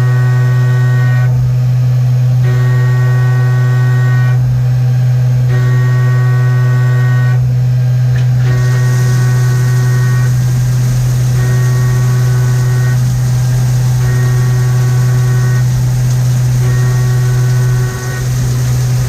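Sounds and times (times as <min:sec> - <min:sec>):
machine high whine: 0:00.0 - 0:19.0
milling machine low hum: 0:00.0 - 0:19.0.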